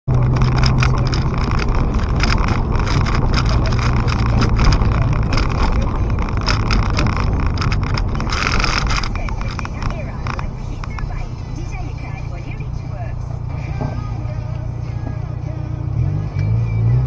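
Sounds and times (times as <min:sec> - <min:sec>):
car interior rattles and clicks: 0:00.1 - 0:15.6
car engine humming: 0:00.1 - 0:17.0
tyre and road noise: 0:00.1 - 0:17.0.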